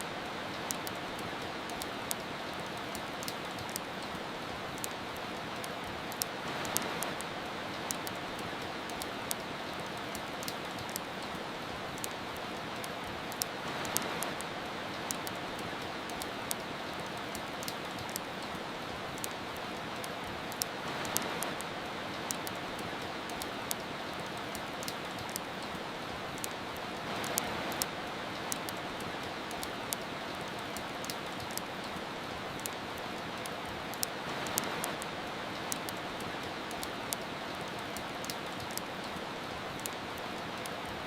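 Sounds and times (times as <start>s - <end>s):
fireplace crackles and pops: 0.0s - 41.0s
rain hiss: 0.0s - 41.0s.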